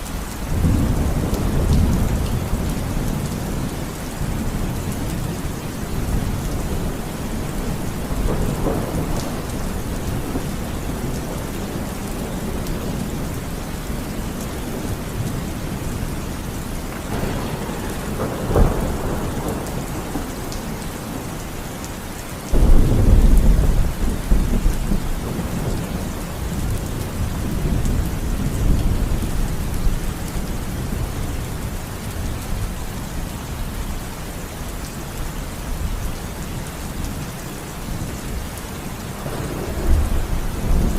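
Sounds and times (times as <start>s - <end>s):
steady rain falling: 0.0s - 40.9s
thunder rumbling and cracking: 0.5s - 32.8s, 39.0s - 40.9s.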